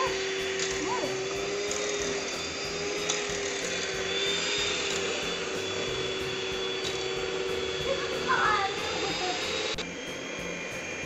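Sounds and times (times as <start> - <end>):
electric hand mixer whining: 0.0 - 11.0.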